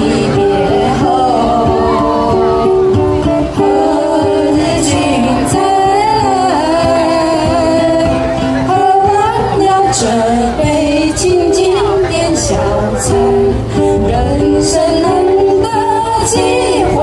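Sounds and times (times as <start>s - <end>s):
ukuleles strummed: 0.0s - 17.0s
voices singing: 0.0s - 17.0s.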